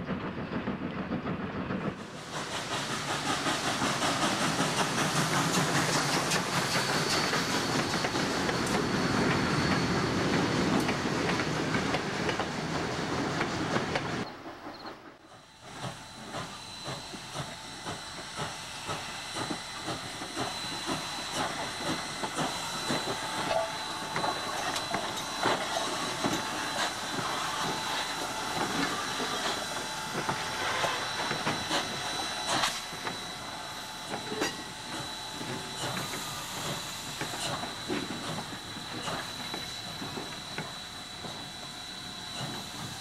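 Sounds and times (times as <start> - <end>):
steam locomotive chuffs and clanks: 0.0 - 43.0
steam hissing: 1.9 - 43.0.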